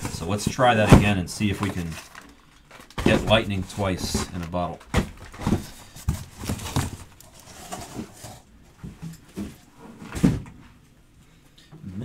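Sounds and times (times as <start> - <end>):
cardboard boxes knocking and sliding: 0.0 - 2.0, 3.0 - 10.6.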